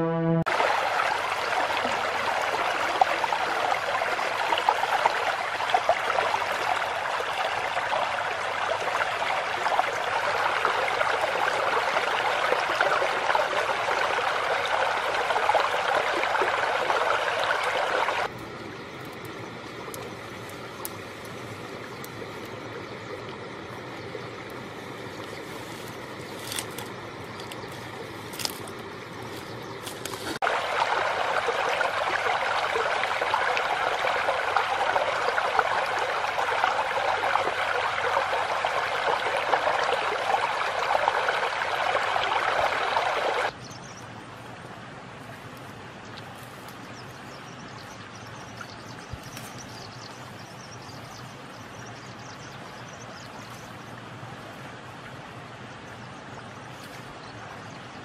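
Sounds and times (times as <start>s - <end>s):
stream running over stones: 0.5s - 58.0s.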